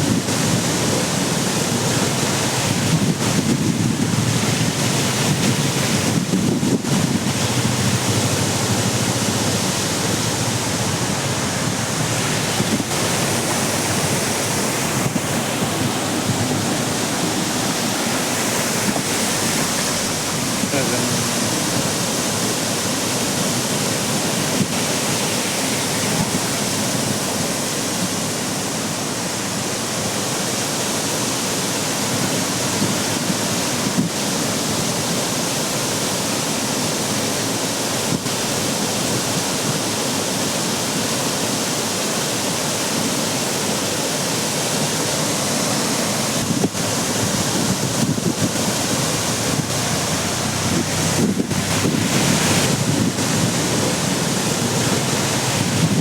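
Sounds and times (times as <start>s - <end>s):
water rushing onto a road: 0.0s - 56.0s.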